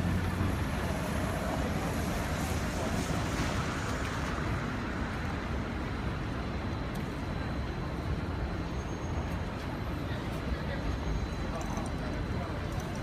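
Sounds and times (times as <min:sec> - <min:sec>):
traffic noise with low rumble: 0:00.0 - 0:13.0.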